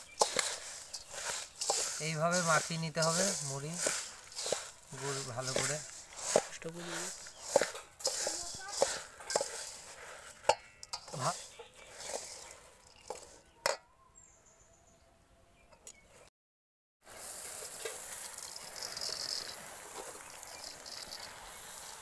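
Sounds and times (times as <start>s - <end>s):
puffed rice pouring: 0.0s - 13.5s, 17.0s - 22.0s
spoon scraping steel bowl: 0.0s - 13.6s, 17.8s - 22.0s.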